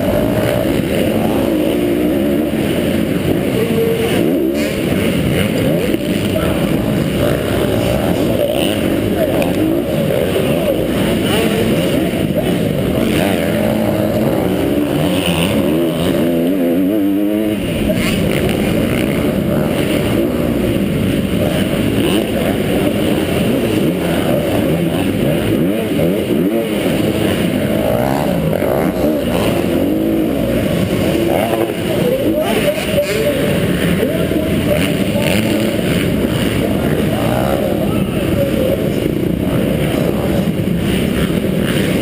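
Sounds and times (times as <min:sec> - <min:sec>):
motorbike engine revving: 0:00.0 - 0:42.0.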